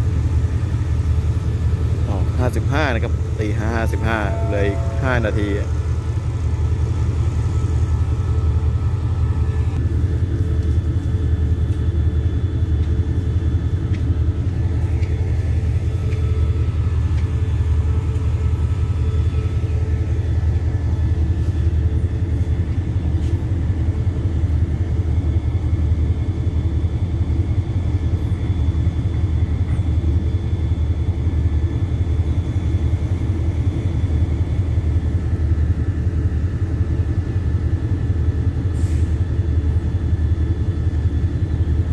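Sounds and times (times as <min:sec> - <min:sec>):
diesel train engine idling: 0:00.0 - 0:41.9.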